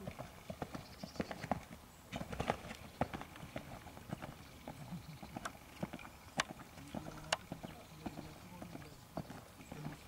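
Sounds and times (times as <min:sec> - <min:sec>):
hooves cantering on sand: 0:00.0 - 0:10.0.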